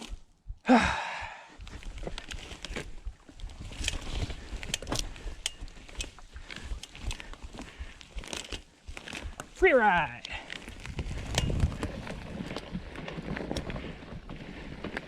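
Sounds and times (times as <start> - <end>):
bike rattling and clicking: 0.0 - 15.0.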